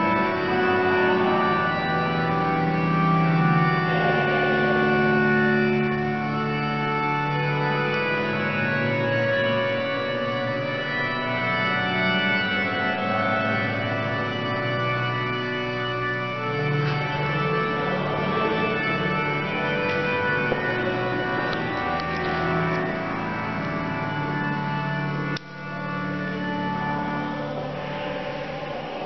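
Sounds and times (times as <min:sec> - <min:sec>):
organ playing sustained chords: 0:00.0 - 0:29.0.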